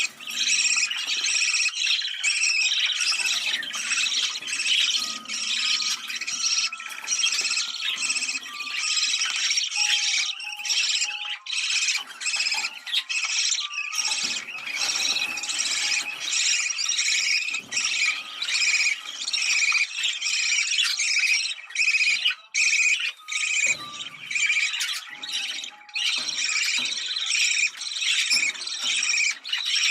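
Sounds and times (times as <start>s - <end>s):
budgerigars chattering and warbling: 0.0s - 29.9s.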